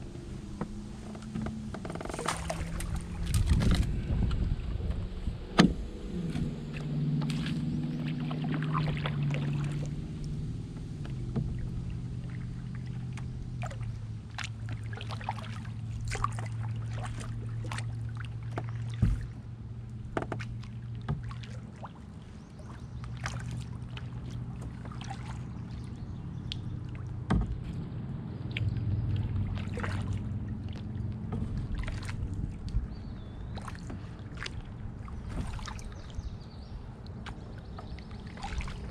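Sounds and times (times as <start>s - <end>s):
low steady hum: 0.0s - 38.9s
paddle knocks and splashes on hull: 0.1s - 38.9s.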